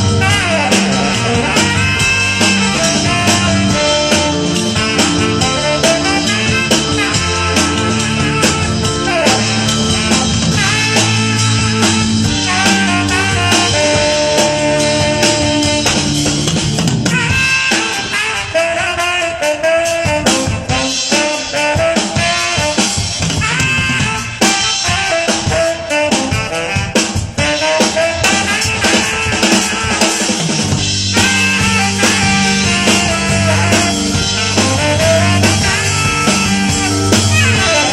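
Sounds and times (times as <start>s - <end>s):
guitar: 0.0s - 18.6s, 20.2s - 37.9s
live band music: 0.0s - 37.9s
steady drum beat: 0.0s - 37.9s.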